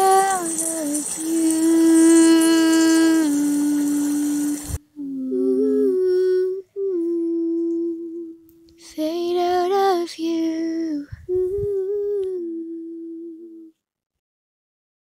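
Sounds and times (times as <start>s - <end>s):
woman humming: 0.0s - 9.8s, 10.8s - 13.7s.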